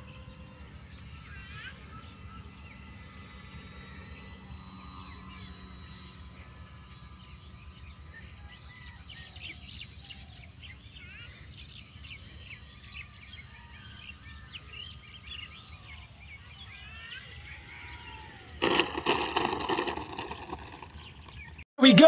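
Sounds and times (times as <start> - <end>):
small birds chirping: 0.0 - 21.6.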